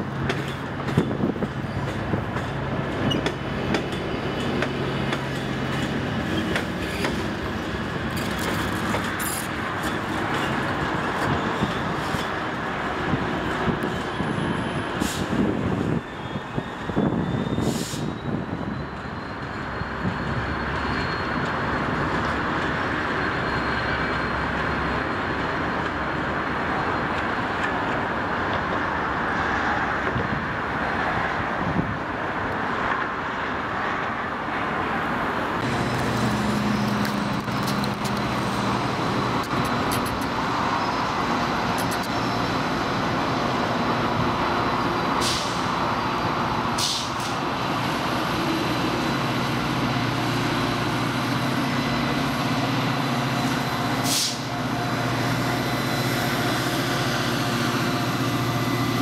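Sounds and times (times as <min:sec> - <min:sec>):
diesel locomotive engine hum: 0:00.0 - 0:59.0
train moving over rails: 0:00.0 - 0:59.0.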